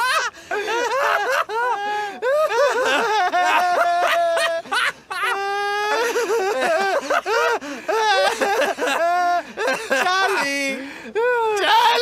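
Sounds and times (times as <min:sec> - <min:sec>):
man wailing and sobbing: 0:00.0 - 0:12.0.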